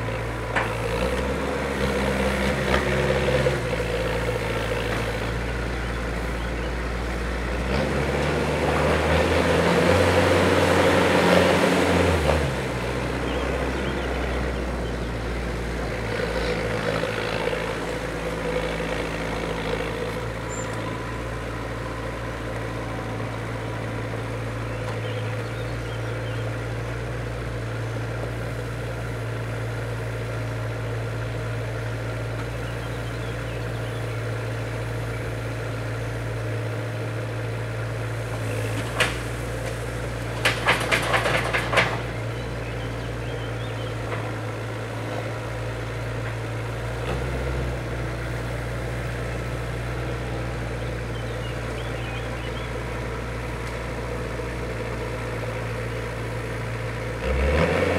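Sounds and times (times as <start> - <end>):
loader engine running: 0.0 - 57.9.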